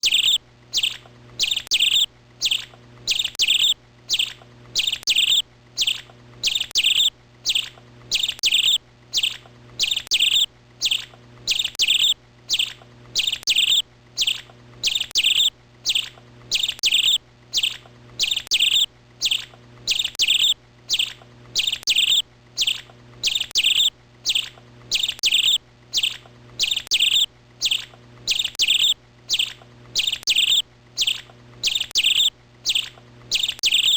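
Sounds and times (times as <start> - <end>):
faint low hum: 0.0 - 33.9
songbird chirping: 0.0 - 33.9.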